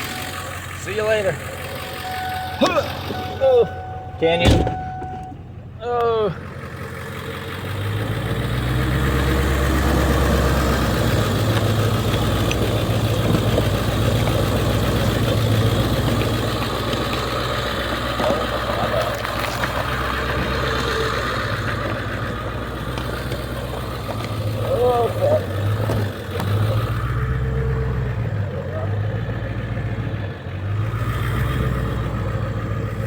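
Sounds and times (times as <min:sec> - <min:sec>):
van engine running at low revs: 0:00.0 - 0:33.0.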